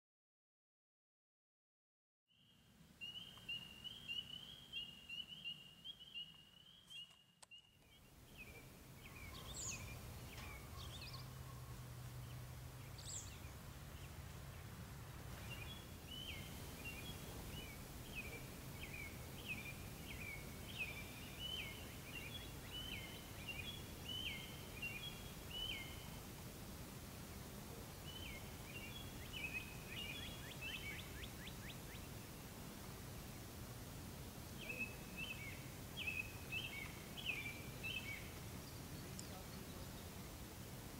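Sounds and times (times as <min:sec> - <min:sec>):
faint outdoor hiss: 0:02.3 - 0:40.9
songbirds chirping: 0:02.3 - 0:40.9.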